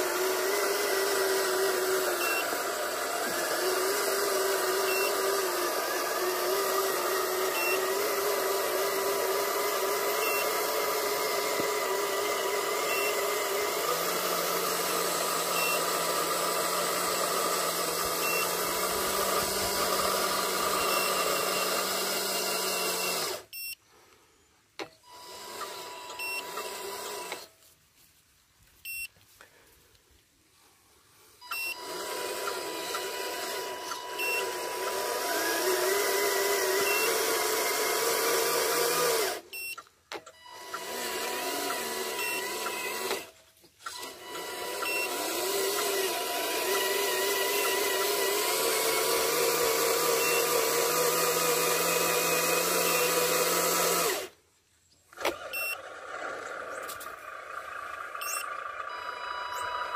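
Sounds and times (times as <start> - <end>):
electric motors whining: 0.0 - 24.0, 24.8 - 27.6, 31.5 - 54.4, 55.1 - 59.9.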